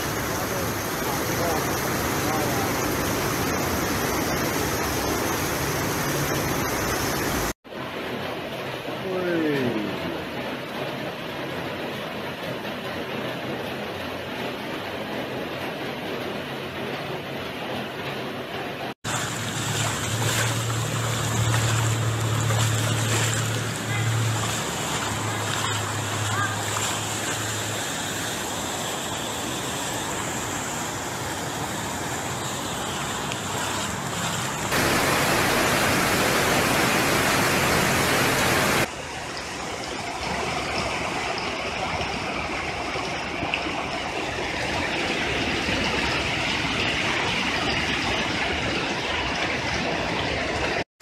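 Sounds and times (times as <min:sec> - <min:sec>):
floodwater rushing: 0:00.0 - 0:16.8, 0:19.0 - 0:50.8.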